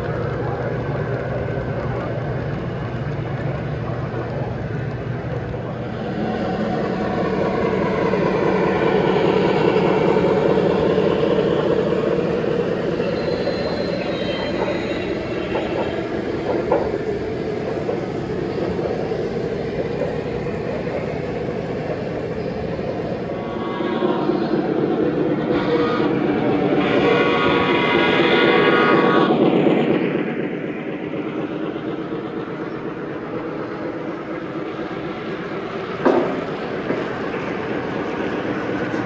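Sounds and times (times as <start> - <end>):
model train wheels rumbling: 0.0 - 39.0.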